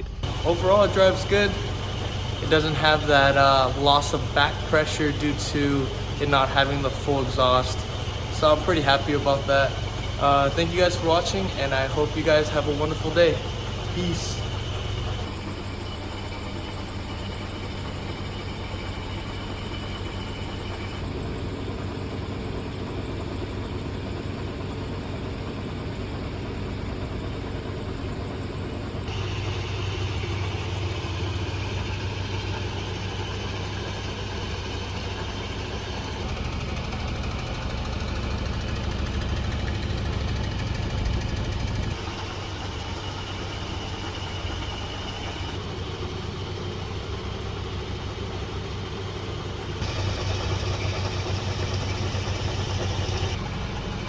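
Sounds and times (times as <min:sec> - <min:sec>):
car engine low drone: 0:00.0 - 0:54.0.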